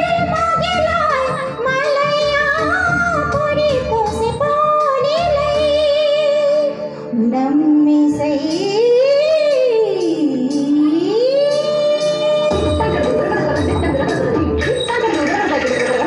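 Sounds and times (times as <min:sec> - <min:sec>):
woman singing into a microphone: 0:00.0 - 0:14.6.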